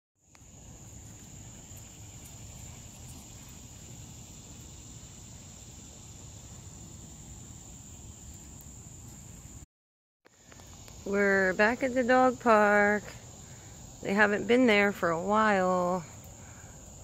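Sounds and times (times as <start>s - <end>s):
insects droning: 0.2s - 9.7s, 10.3s - 17.0s.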